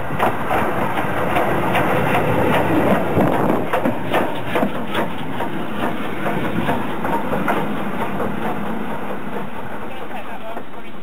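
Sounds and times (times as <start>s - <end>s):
steam train running: 0.0s - 11.0s.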